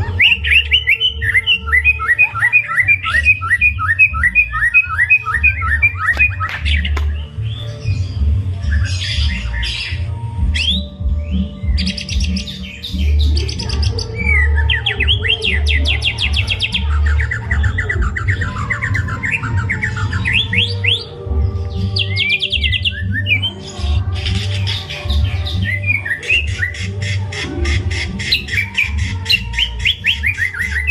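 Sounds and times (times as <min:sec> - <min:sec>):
songbird singing varied song: 0:00.0 - 0:30.9.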